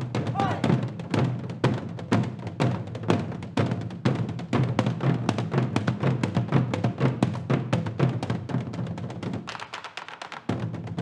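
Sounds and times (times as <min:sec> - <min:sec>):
traditional drums fast rhythm: 0:00.0 - 0:11.0.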